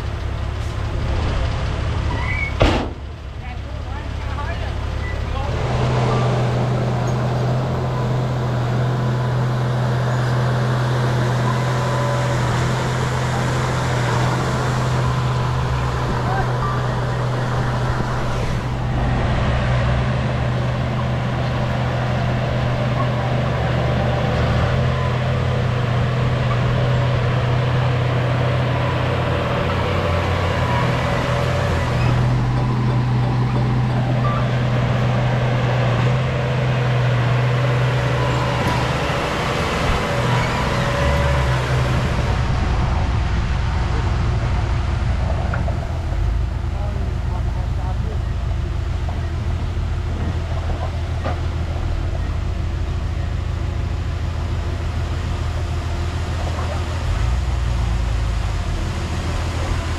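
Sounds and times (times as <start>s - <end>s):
bulldozer diesel engine humming: 0.0s - 59.9s.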